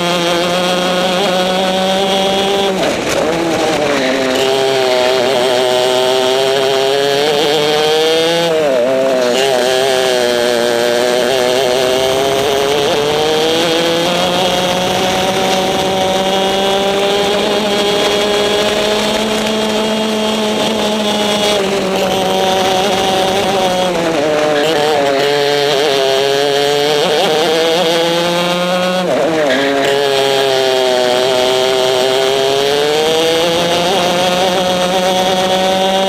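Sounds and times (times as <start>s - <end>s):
kart engine revving: 0.0s - 36.0s.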